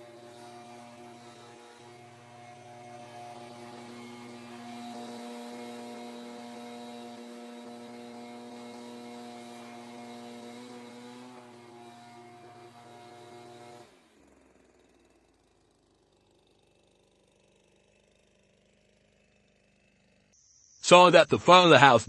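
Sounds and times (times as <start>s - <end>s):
small gasoline engine running: 0.0s - 20.4s.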